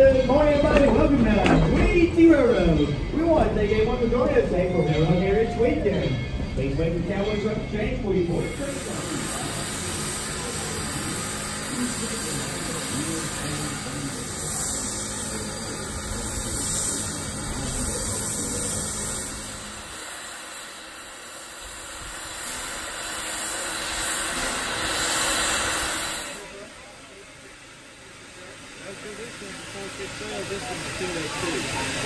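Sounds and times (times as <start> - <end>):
faint voices: 0.0 - 32.0
steam hissing from steam engine: 5.0 - 32.0.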